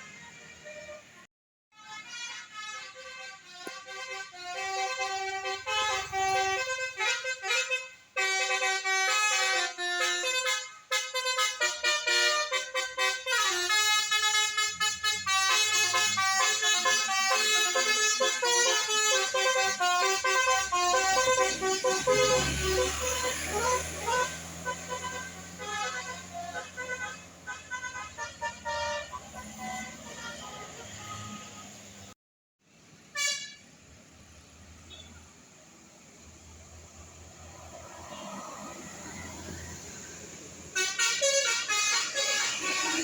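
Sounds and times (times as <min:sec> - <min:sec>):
bus horn playing tunes: 0:00.1 - 0:32.1, 0:33.0 - 0:33.8, 0:40.6 - 0:43.0.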